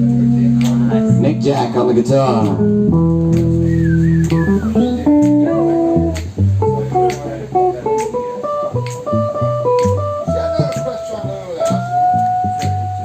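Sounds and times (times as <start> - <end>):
electric bass: 0.0 - 13.0
electric guitar single notes: 0.0 - 13.0.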